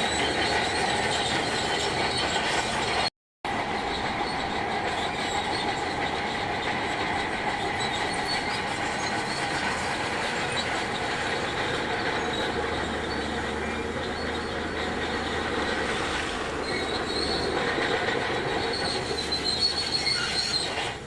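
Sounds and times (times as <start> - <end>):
bulldozer engine running: 0.0 - 21.0
steel tracks squealing and clattering: 0.0 - 21.0.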